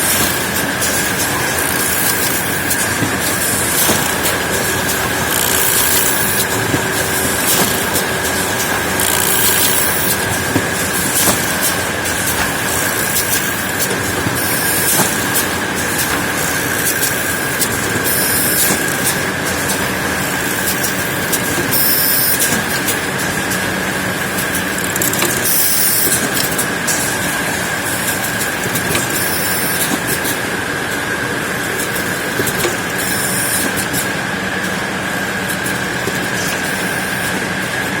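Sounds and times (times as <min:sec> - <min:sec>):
high machine whine: 0:00.0 - 0:38.0
sewing machine clatter: 0:00.0 - 0:38.0.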